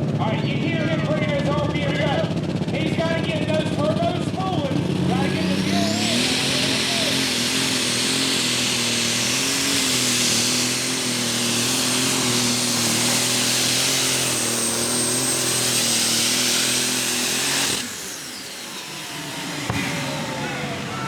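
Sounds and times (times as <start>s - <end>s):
tractor engine howling under load: 0.0s - 21.0s.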